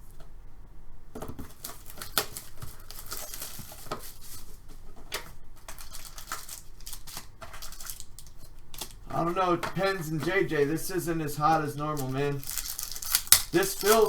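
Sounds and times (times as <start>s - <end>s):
card pack wrappers rustling: 1.2s - 14.0s.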